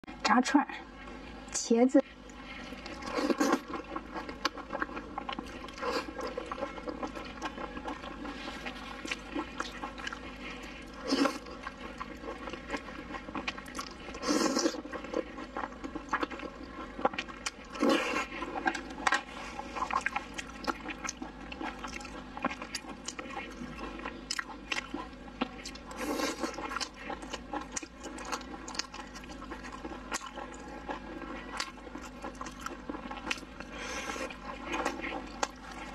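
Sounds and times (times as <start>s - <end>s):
person chewing food: 2.1s - 35.9s.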